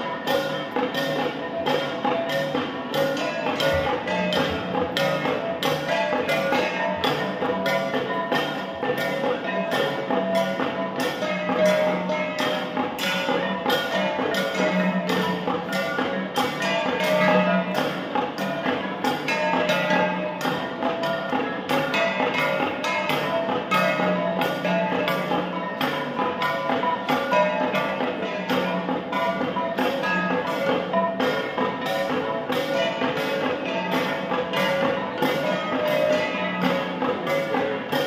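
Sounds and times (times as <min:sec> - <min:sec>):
bronze gongs struck in rhythm: 0:00.0 - 0:38.0.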